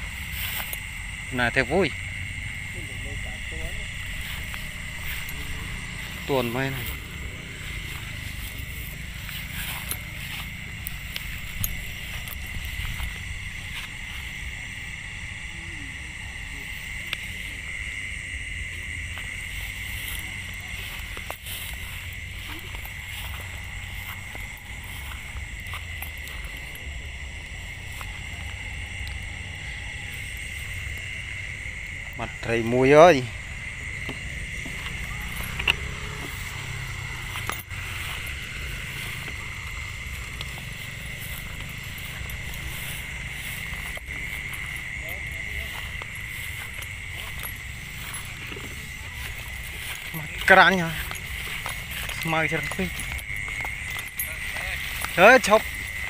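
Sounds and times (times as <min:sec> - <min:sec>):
footsteps rustling through grass: 0:00.0 - 0:56.0
night insects trilling: 0:00.0 - 0:56.0.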